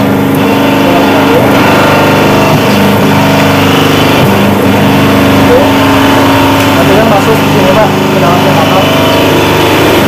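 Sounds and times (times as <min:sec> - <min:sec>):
moulding machine humming: 0:00.0 - 0:10.0.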